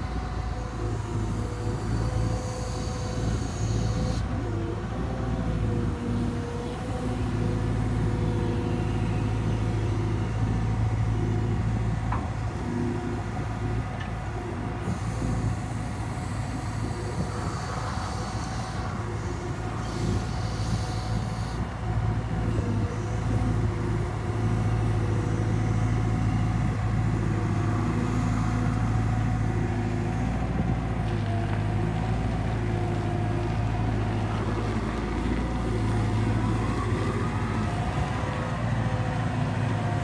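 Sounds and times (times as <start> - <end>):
diesel engine running: 0.0 - 40.0
hydraulic whine: 0.0 - 40.0.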